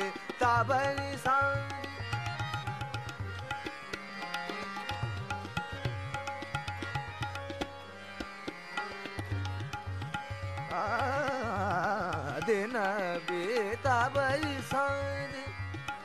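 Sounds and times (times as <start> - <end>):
brisk tabla rhythm: 0.0 - 16.0
indian classical instrumental music: 0.0 - 16.0.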